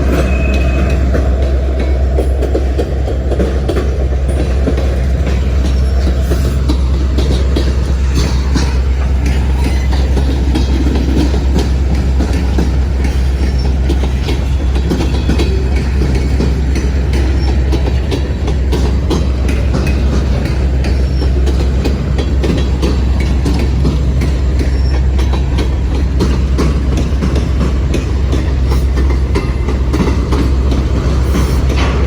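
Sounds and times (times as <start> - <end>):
freight train rumbling by: 0.0 - 32.0
wheels clicking over rail joints: 0.0 - 32.0.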